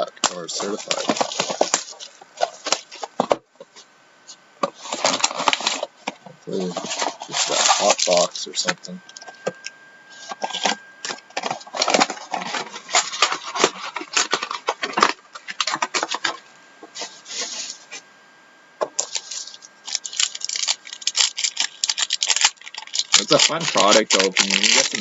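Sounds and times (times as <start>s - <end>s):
card pack wrappers crinkling: 0.2s - 3.4s, 4.7s - 16.4s, 18.9s - 25.0s.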